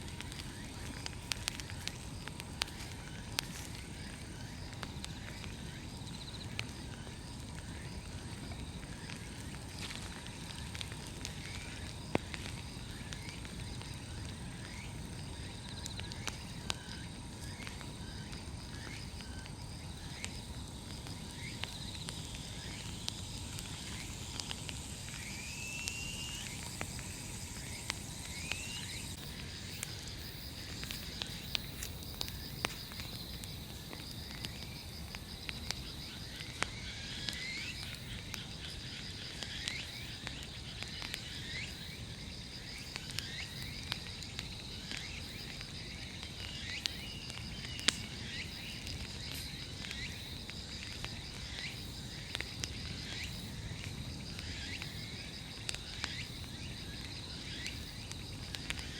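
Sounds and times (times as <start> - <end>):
bonfire burning with crackles: 0.0 - 58.9
insects trilling: 0.0 - 58.9.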